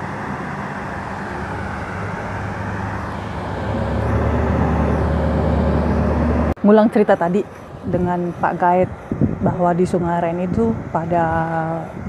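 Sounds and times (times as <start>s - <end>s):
boat engine humming: 0.0s - 12.0s
rushing noise: 0.0s - 12.0s.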